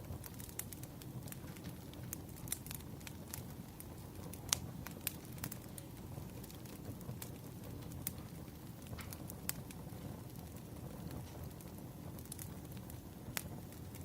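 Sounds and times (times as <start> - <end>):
low rush of flame: 0.0 - 14.0
wood fire crackling: 0.0 - 14.0.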